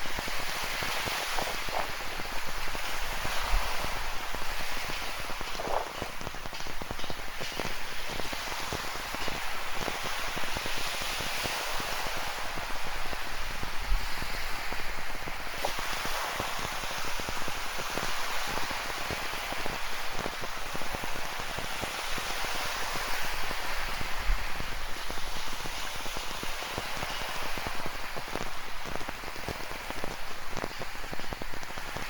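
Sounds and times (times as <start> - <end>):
ocean waves washing on shore: 0.0 - 32.0
rain pattering: 0.0 - 32.0.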